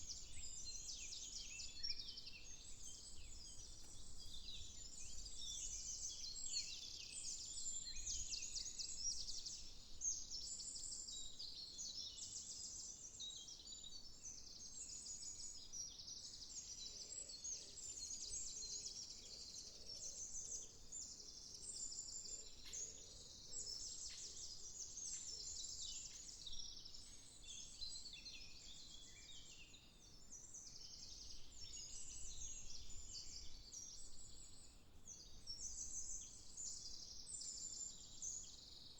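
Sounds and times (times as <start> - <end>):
songbirds singing in chorus: 0.0 - 38.9.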